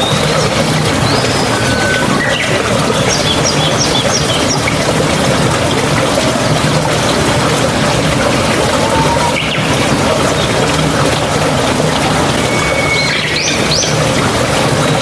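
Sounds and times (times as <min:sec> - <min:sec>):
songbirds calling: 0:00.0 - 0:05.4, 0:06.9 - 0:15.0
water flowing: 0:00.0 - 0:15.0.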